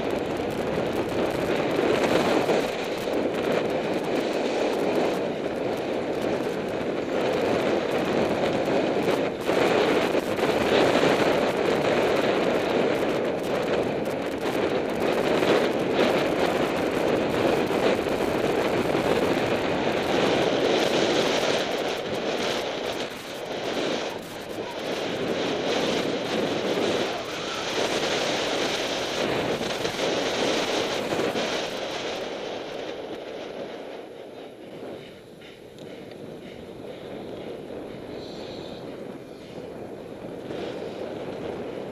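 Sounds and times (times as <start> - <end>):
bike rattling and knocking: 0.0 - 41.9
wind rushing over microphone: 0.0 - 41.9.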